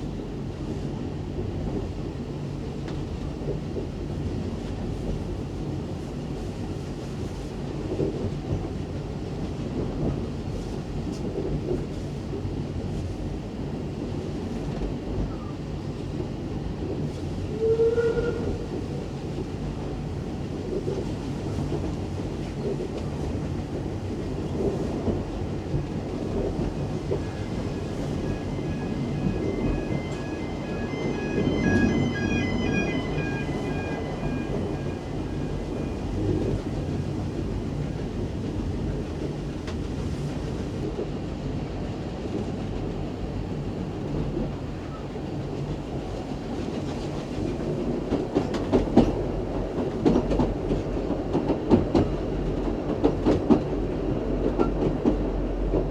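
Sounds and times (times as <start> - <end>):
steam train running on track: 0.0 - 55.9.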